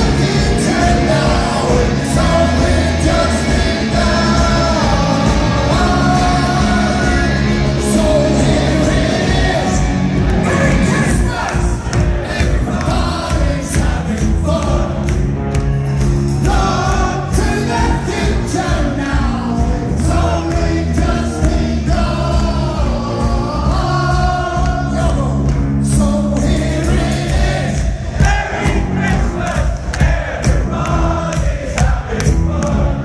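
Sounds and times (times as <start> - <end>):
live rock band playing: 0.0 - 29.6
crowd singing along: 0.0 - 33.0.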